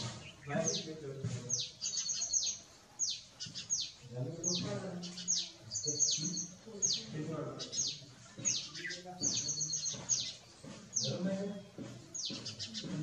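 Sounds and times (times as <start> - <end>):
birds calling sharp high notes: 0.0 - 12.9.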